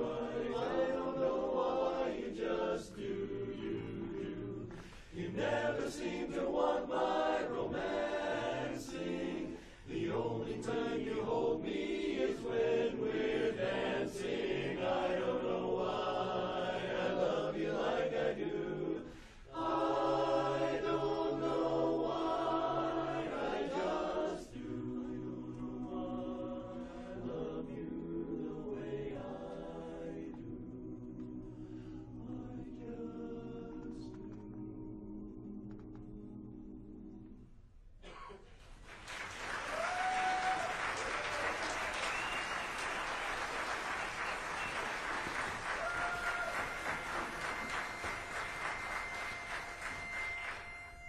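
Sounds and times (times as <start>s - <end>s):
chorus singing a cappella: 0.0s - 37.4s, 39.7s - 51.0s.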